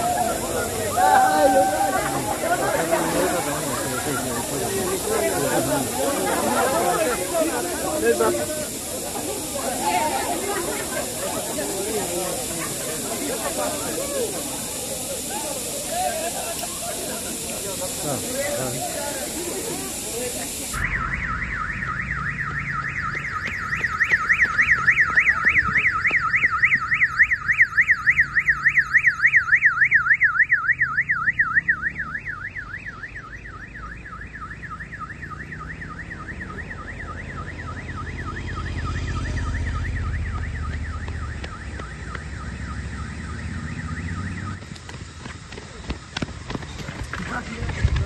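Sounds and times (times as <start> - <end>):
electronic siren warbling: 0.0 - 15.4, 20.2 - 44.7.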